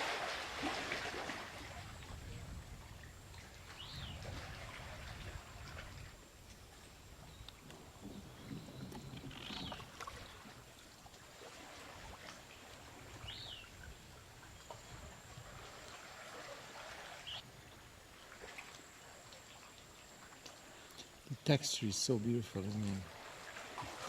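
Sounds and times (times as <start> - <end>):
kayak paddles splashing water: 0.0 - 24.0.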